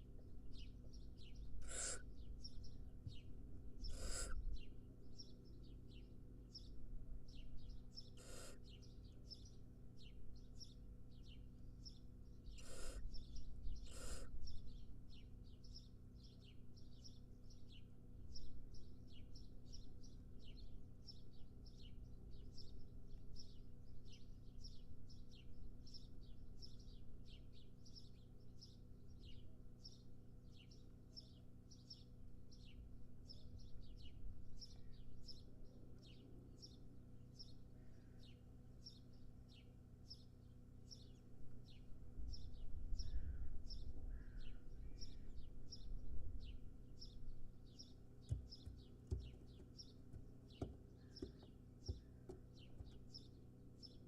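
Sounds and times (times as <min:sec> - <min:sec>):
small bird chirping: 0:00.0 - 0:54.0.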